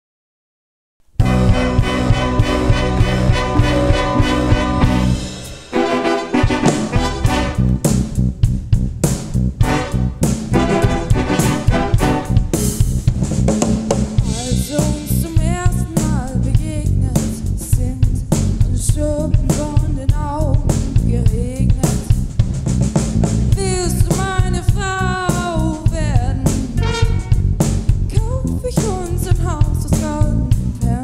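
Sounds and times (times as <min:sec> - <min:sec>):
drum kit and bass groove: 0:01.1 - 0:31.0
big band playing: 0:01.2 - 0:31.0.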